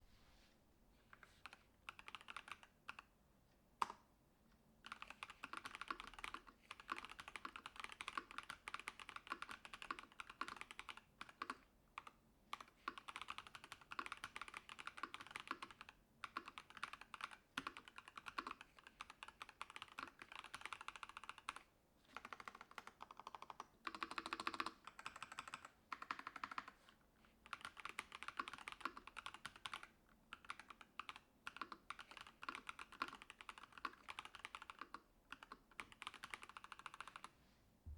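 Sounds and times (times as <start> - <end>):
mechanical keyboard typing: 1.4 - 3.1, 4.8 - 21.6, 22.2 - 26.8, 27.4 - 37.3.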